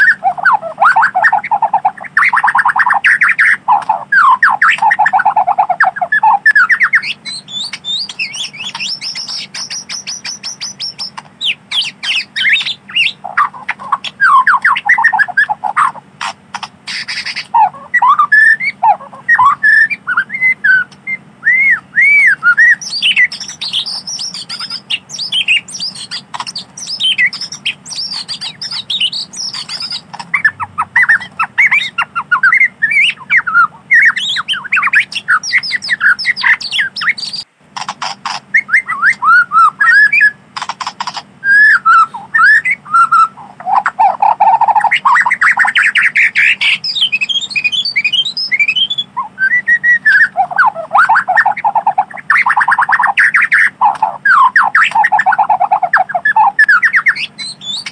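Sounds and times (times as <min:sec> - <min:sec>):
songbird whistling song: 0:00.0 - 0:57.9.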